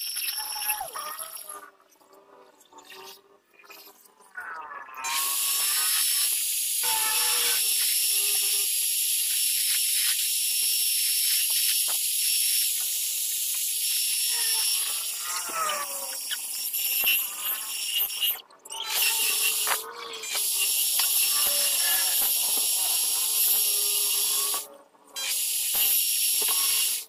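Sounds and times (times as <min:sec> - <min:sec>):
metal lathe cutting hiss and whine: 0:05.1 - 0:27.0.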